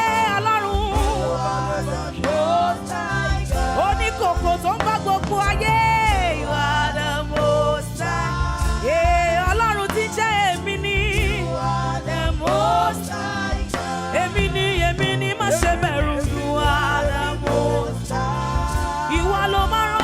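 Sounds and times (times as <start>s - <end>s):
band with bass keyboard and drums: 0.0s - 20.0s
gospel singing with vibrato: 0.0s - 20.0s.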